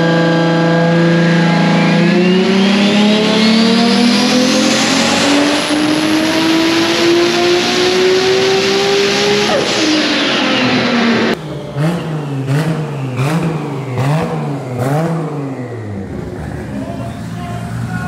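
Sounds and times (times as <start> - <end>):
engine revving under load: 0.0 - 17.8.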